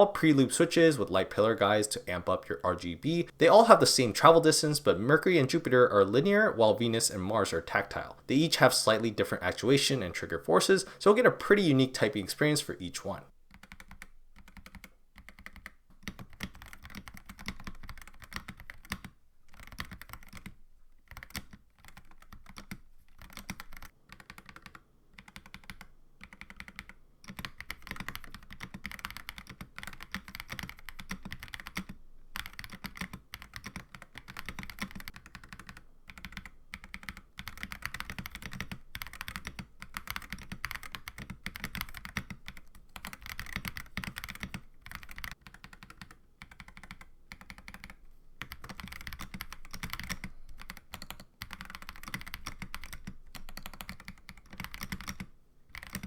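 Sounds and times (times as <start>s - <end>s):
fast mechanical keyboard typing: 0.0s - 56.0s.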